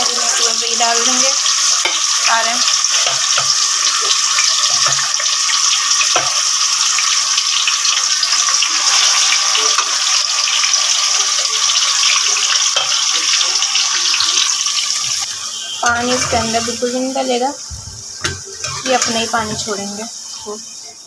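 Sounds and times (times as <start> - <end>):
beef sizzling in hot oil: 0.0 - 21.0.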